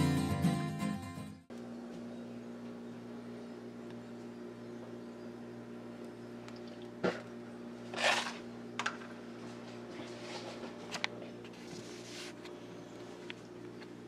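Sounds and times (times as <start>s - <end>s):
low electrical hum: 1.4s - 14.0s.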